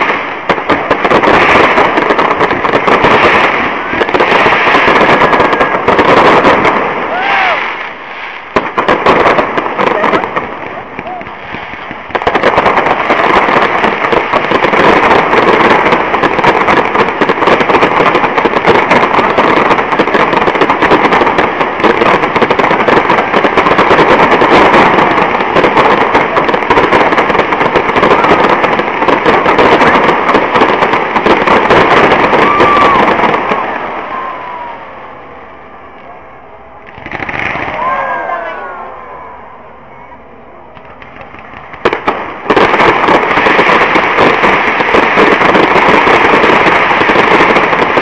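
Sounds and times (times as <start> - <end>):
fireworks crackling bangs: 0.0 - 39.2, 40.6 - 48.0
firework whistle: 1.1 - 11.8, 12.4 - 30.8, 31.4 - 48.0.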